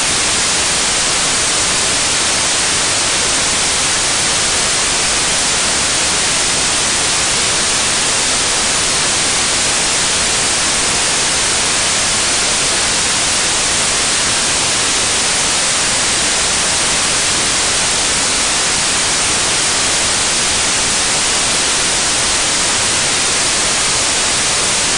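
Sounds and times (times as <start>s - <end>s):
static white noise hiss: 0.0s - 24.9s.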